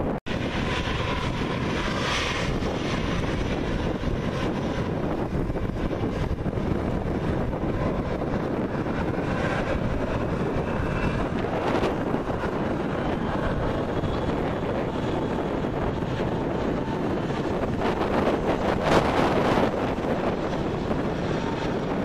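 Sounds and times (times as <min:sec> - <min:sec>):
jet engines: 0:00.0 - 0:22.0
wind buffeting microphone: 0:00.0 - 0:22.0.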